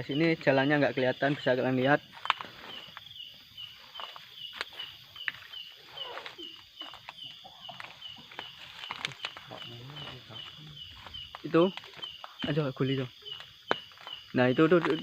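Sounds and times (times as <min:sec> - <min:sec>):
insect chirping: 0:00.0 - 0:15.0
footsteps on a garden path: 0:00.1 - 0:15.0.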